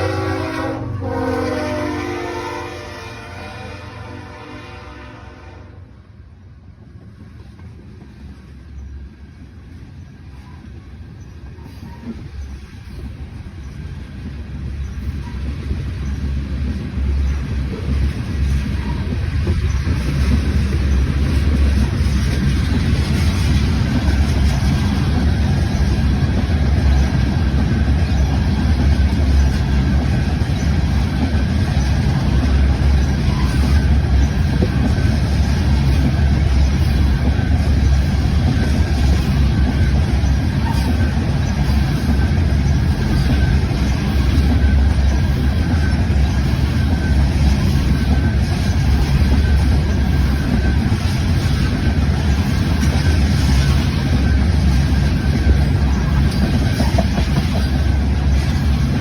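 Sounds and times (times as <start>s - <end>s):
train rumbling past: 0.0s - 59.0s.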